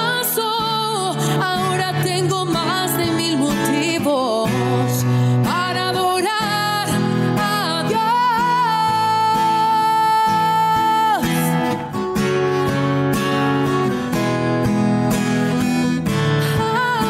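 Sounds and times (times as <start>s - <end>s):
person singing: 0.0s - 11.9s, 15.2s - 17.0s
strummed acoustic guitar: 0.0s - 17.0s.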